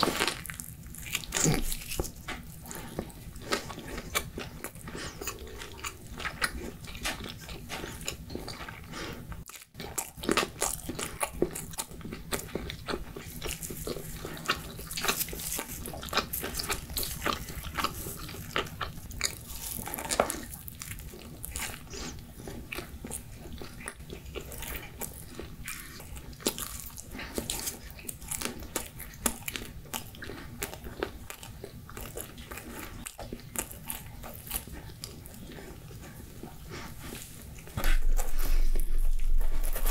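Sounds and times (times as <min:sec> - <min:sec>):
chewing pizza crunches: 0:00.0 - 0:39.9.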